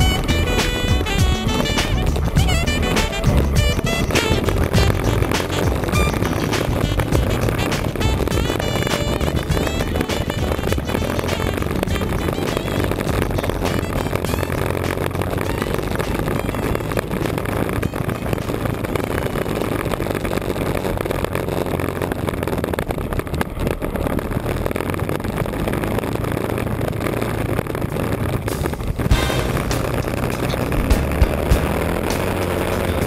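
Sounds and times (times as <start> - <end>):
motorcycle engine cruising: 0.0 - 33.0
wind and road noise: 0.0 - 33.0.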